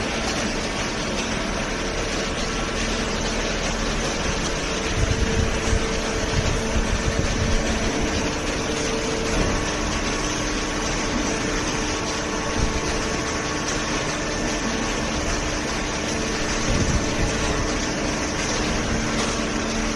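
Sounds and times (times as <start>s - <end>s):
baler machine humming: 0.0s - 19.9s.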